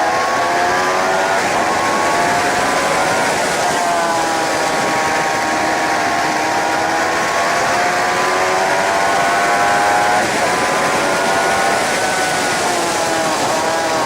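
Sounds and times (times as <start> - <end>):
motorcycle engine accelerating: 0.0 - 14.0
wind rush on microphone: 0.0 - 14.0.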